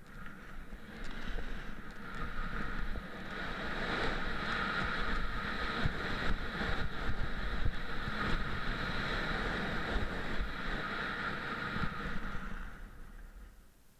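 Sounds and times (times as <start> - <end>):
skis sliding on snow: 0.0 - 13.5
wind buffeting microphone: 0.0 - 13.6.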